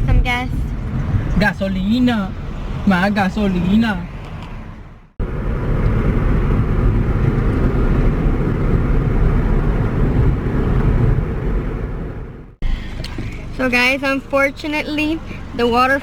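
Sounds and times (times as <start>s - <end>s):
car driving road noise: 0.0s - 16.0s.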